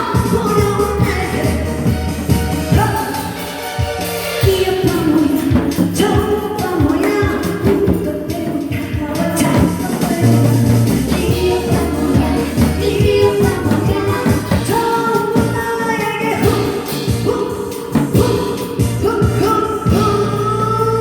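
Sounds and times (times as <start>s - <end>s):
woman singing: 0.0s - 2.0s, 2.7s - 3.4s, 4.4s - 21.0s
backing music with steady beat: 0.0s - 21.0s.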